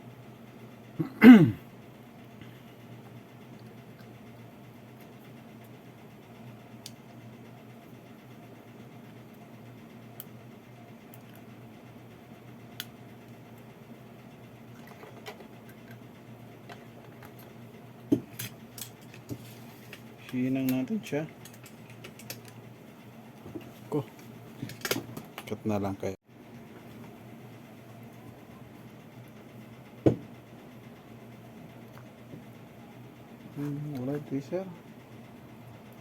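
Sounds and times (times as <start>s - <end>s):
faint electrical hum: 0.0s - 36.0s.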